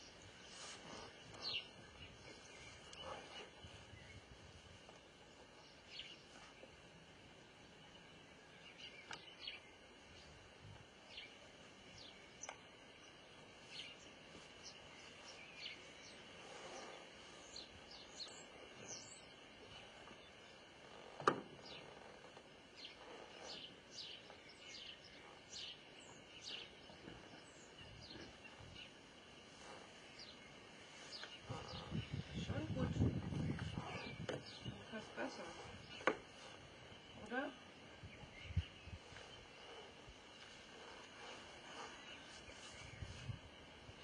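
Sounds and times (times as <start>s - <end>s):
faint bird chirps: 0.0s - 6.8s, 11.1s - 44.0s.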